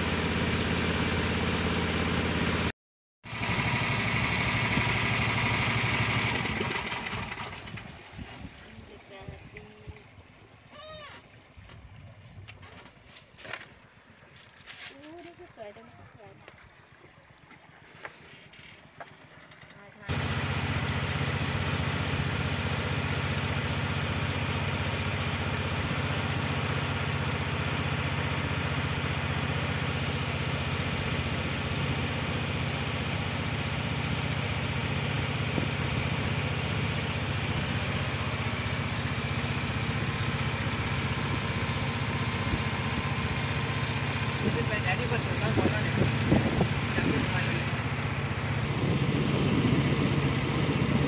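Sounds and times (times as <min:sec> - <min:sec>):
small boat engine running: 0:00.0 - 0:51.0.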